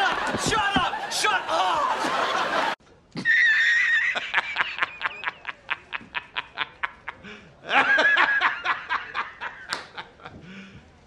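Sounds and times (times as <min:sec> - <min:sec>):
person laughing: 0:00.0 - 0:10.4.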